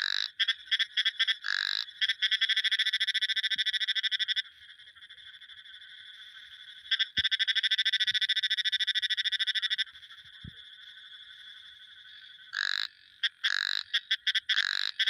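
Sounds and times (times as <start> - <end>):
frogs calling in pulsed trills: 0.0 - 15.0.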